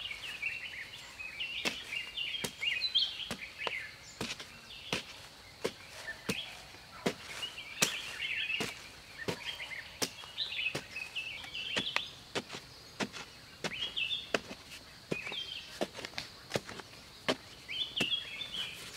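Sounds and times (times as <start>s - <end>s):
birds chirping: 0.0s - 18.9s
digging stick jabbing earth: 1.6s - 18.9s.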